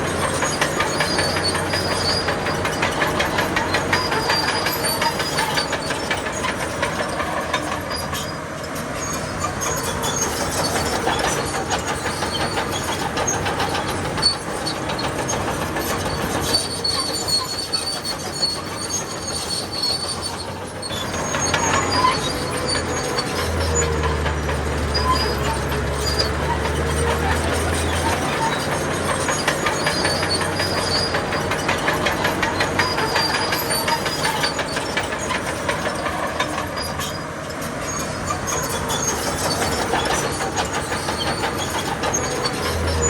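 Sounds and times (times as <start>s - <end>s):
diesel engine running: 0.0s - 43.0s
steel tracks clanking: 0.0s - 43.0s.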